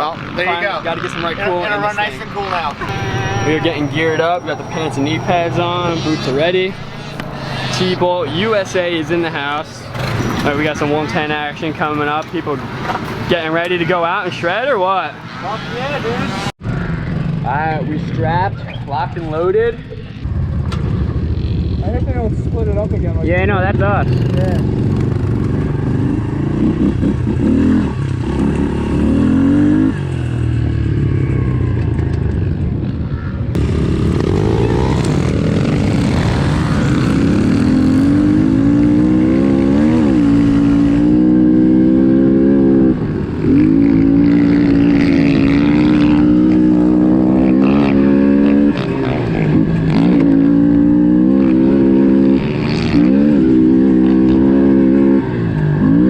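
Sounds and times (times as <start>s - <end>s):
motorbike engine revving: 0.0s - 18.3s, 23.7s - 56.0s
other engines: 0.0s - 56.0s.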